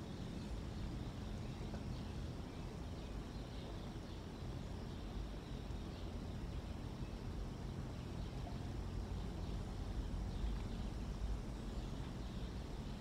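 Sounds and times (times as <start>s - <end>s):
low outdoor rumble with hiss: 0.0s - 13.0s.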